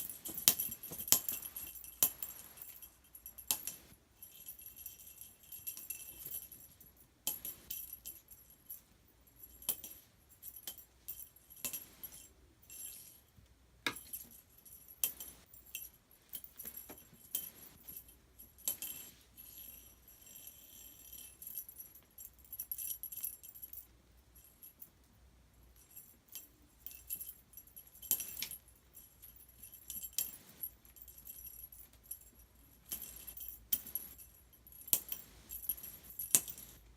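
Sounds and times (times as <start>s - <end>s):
small bell jingling: 0.0s - 36.9s.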